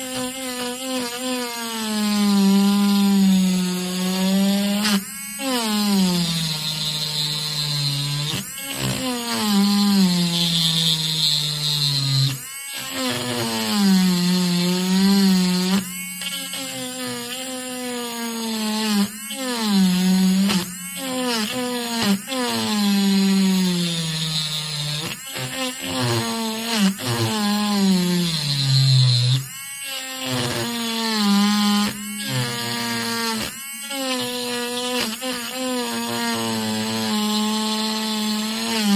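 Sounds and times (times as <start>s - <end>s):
rotary tool grinding: 0.0s - 38.9s.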